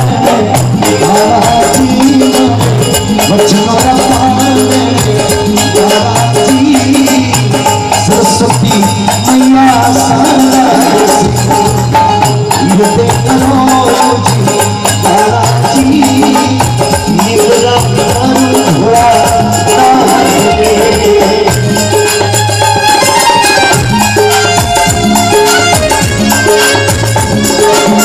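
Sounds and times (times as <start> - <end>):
fast steady percussion: 0.0 - 28.0
held melody line: 0.0 - 28.0
repeating bass line: 0.0 - 28.0.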